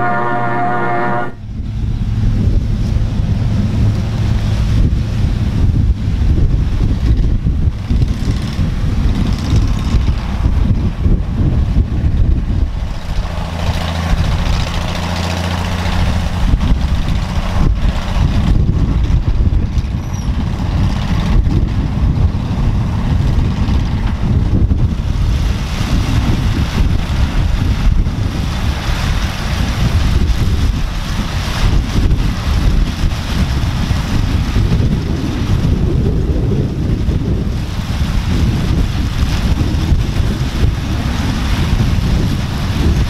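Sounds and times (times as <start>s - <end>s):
combine harvester rumbling: 0.0s - 43.0s
wind buffeting microphone: 0.0s - 43.0s.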